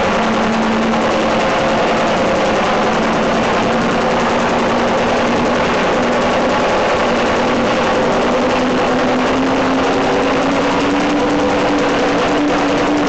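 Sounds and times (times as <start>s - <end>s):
ringing tone rising in pitch: 0.0s - 13.0s.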